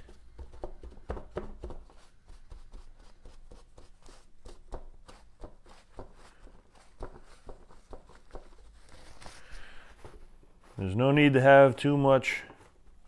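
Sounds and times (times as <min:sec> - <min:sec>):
paper towel dabbing and rustling: 0:00.0 - 0:13.0.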